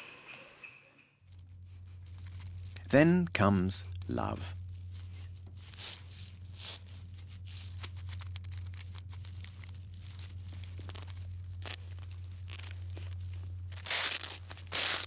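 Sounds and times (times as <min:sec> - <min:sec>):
steady low hum: 0:00.0 - 0:15.0
faint rustling and crackling: 0:01.3 - 0:15.0.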